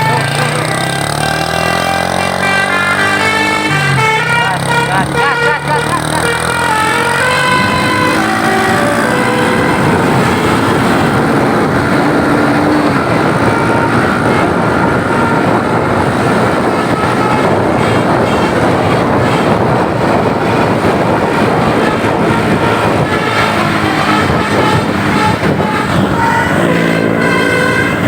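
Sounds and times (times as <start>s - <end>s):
bus air horn melody: 0.0s - 28.0s
road and vehicle noise: 0.0s - 28.0s.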